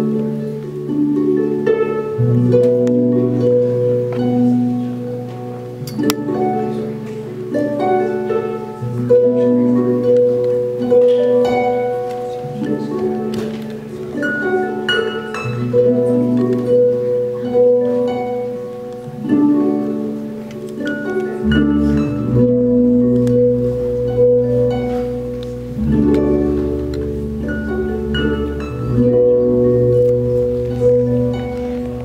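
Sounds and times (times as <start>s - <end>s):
plucked harp notes: 0.0s - 32.0s.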